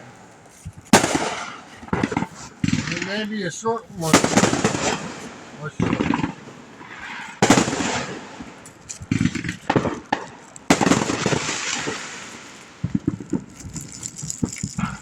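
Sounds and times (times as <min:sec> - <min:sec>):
firework bangs: 0:00.0 - 0:15.0
firework hiss: 0:00.0 - 0:15.0
small firework pops: 0:00.3 - 0:03.3, 0:03.9 - 0:15.0.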